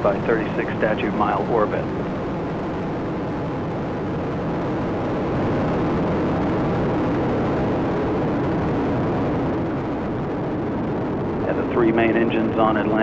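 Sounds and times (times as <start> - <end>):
rocket engines rumbling: 0.0 - 13.0.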